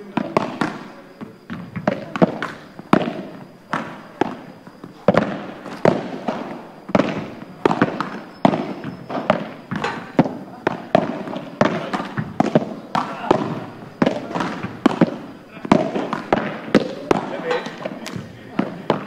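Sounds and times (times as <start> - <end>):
ball bouncing off court and walls: 0.0 - 19.0
rackets striking ball: 0.0 - 19.0.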